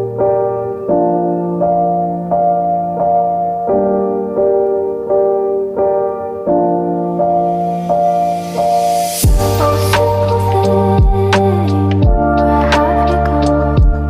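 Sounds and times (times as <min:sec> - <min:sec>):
piano-like keyboard chords: 0:00.0 - 0:14.0.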